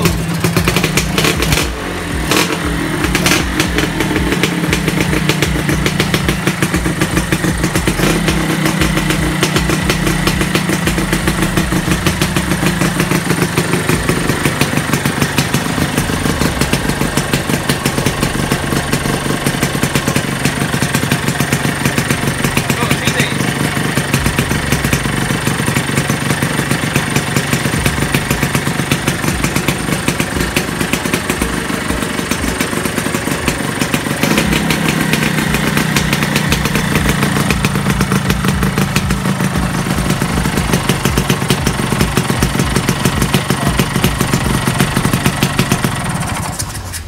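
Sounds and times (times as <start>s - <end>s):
scooter engine idling: 0.0s - 47.0s.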